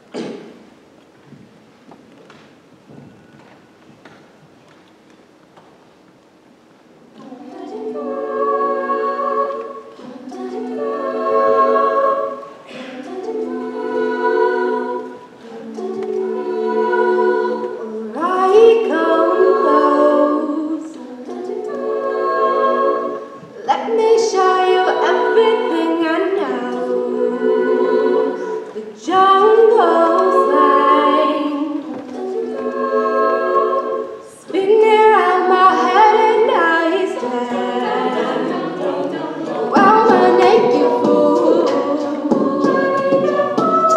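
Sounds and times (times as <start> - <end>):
a cappella group singing: 7.1 - 43.9.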